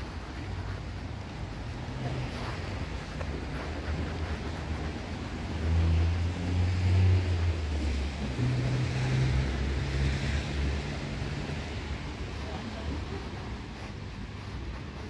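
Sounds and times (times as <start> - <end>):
low engine hum: 0.0 - 15.0
tyres hissing on road: 0.0 - 15.0.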